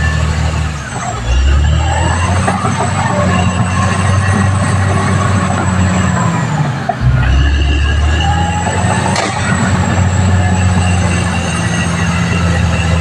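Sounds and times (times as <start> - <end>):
bulldozer diesel drone: 0.0 - 13.0
high-pitched whines: 0.0 - 13.0.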